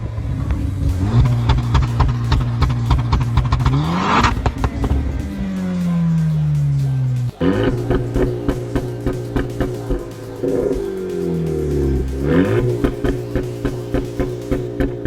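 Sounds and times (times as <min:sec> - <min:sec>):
car engine and exhaust revving: 0:00.0 - 0:15.0.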